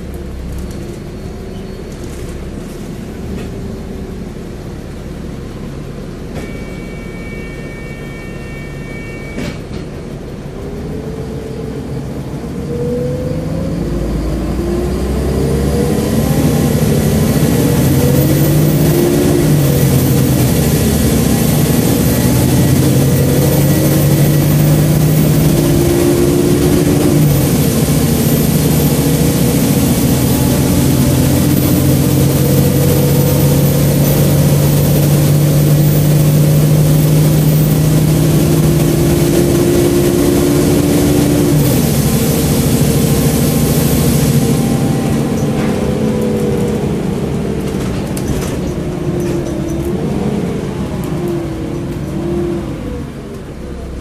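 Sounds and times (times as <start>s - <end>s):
bus diesel engine: 0.0s - 54.0s
road noise: 0.0s - 54.0s.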